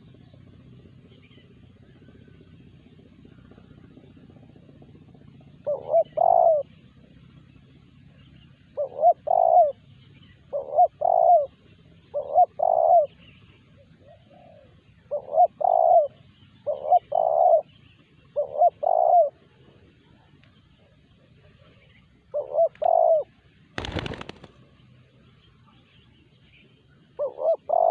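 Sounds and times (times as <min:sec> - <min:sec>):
dove cooing: 0:00.0 - 0:07.2, 0:08.0 - 0:24.7, 0:27.0 - 0:27.9.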